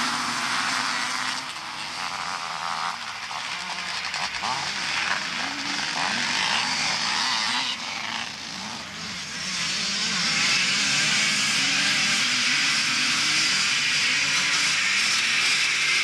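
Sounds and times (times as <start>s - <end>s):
motocross motorcycles racing past: 0.0s - 16.0s.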